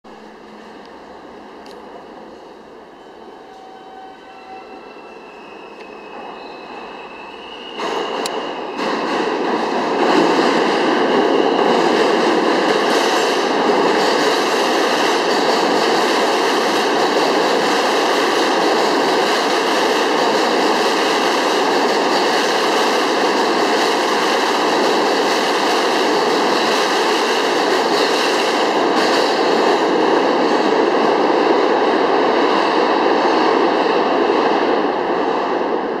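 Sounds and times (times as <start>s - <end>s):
subway train rolling past: 0.0s - 36.0s.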